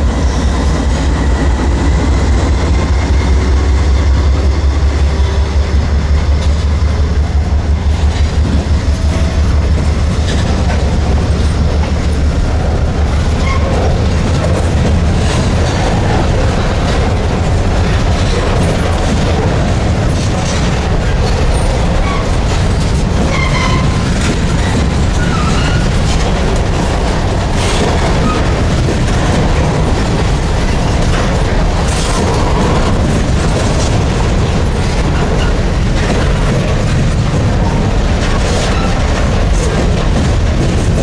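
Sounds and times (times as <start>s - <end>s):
steel wheels rumbling on rail: 0.0s - 41.0s
wheels clicking over rail joints: 0.0s - 41.0s.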